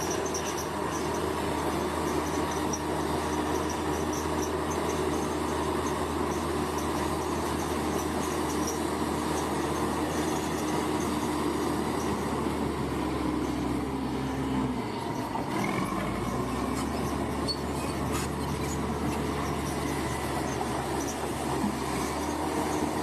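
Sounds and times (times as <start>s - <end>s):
construction machine diesel engine: 0.0s - 23.0s.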